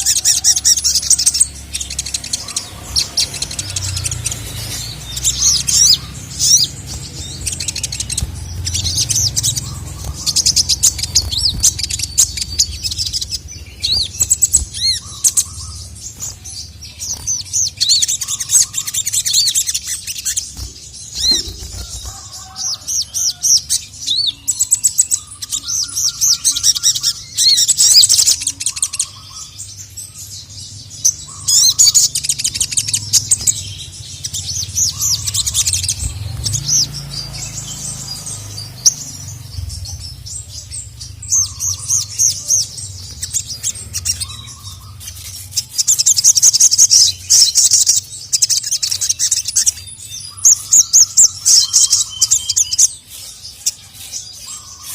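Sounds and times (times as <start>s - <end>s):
sunbird singing: 0.0s - 54.9s.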